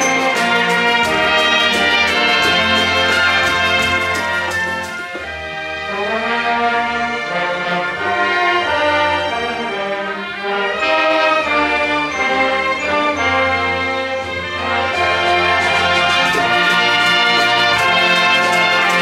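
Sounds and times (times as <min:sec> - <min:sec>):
orchestra playing sustained chords: 0:00.0 - 0:19.0.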